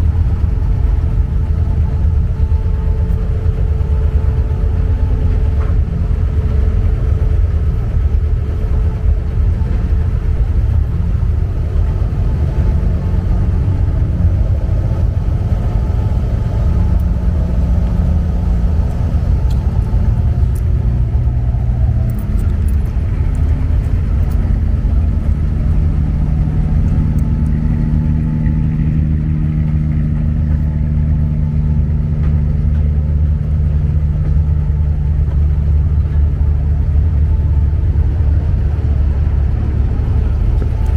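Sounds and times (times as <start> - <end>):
boat diesel engine rumbling: 0.0 - 40.9.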